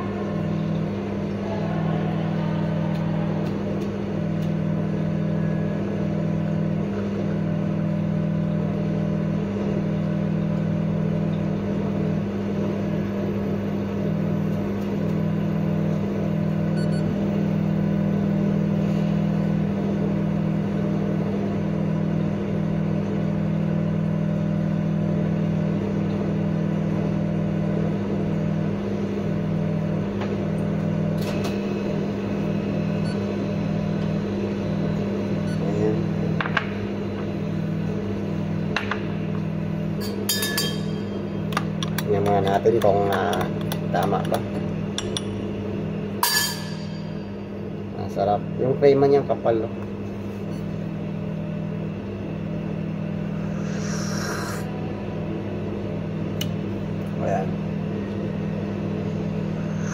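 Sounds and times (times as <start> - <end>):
espresso machine pump humming: 0.0 - 59.9.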